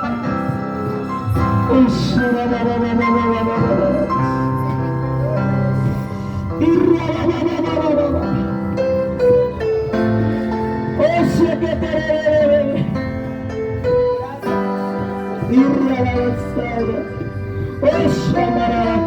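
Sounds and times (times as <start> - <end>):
person singing: 0.0 - 19.0
slow electric keyboard music: 0.0 - 19.0.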